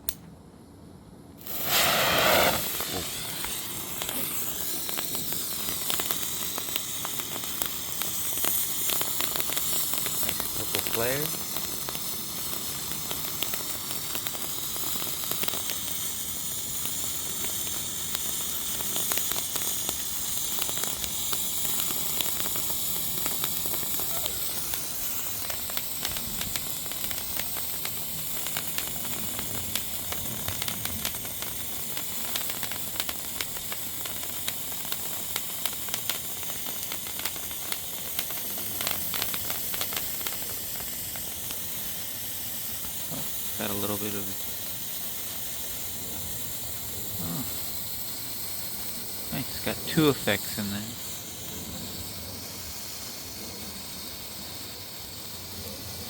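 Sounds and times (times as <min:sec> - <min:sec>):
small crackling pops: 0:01.4 - 0:55.8
firework sparks hissing: 0:01.4 - 0:56.0.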